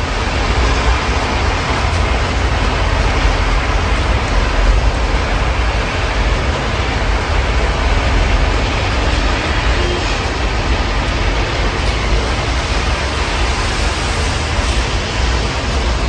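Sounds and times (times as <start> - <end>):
city traffic rumble: 0.0 - 16.0
rain falling: 0.0 - 16.0.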